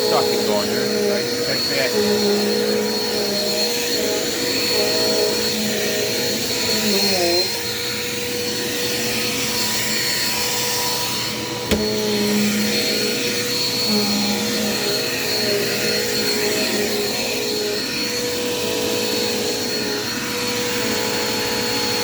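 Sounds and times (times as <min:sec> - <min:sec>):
vacuum cleaner whining: 0:00.0 - 0:22.0.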